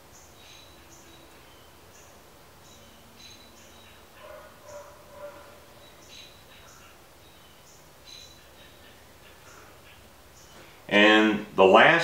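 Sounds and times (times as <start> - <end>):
small bird chirping: 0.0 - 10.8.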